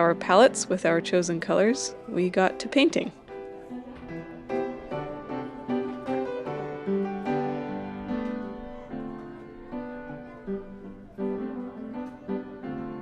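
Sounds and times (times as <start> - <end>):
piano melody: 0.0 - 13.0.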